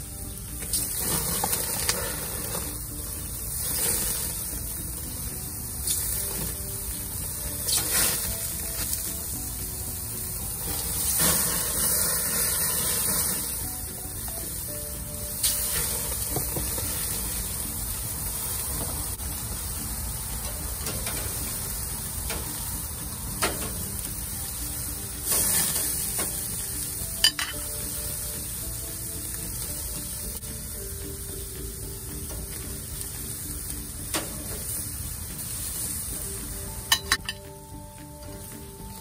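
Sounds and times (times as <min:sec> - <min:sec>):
food sizzling on a grill: 0:00.0 - 0:39.0.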